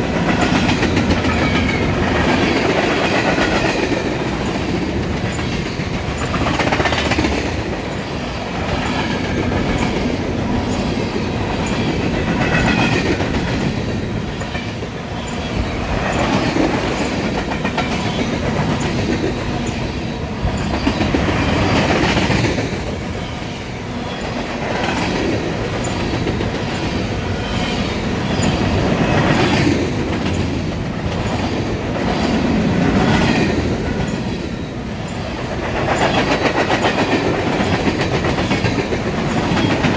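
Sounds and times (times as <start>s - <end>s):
freight train rumbling: 0.0s - 39.9s
wheels clacking over rail joints: 0.0s - 39.9s.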